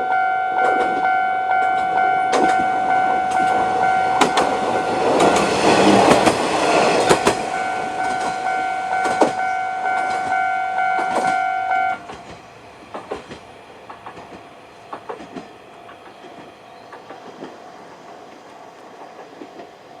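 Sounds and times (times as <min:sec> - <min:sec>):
crossing warning bell ringing: 0:00.0 - 0:16.0
train wheels clacking on rail joints: 0:00.6 - 0:20.0.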